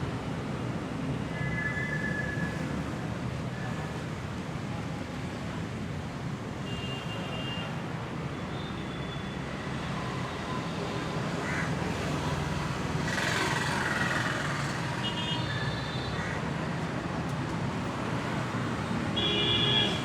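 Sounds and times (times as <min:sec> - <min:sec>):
road traffic rumble: 0:00.0 - 0:20.0
rush of passing traffic: 0:00.0 - 0:20.0.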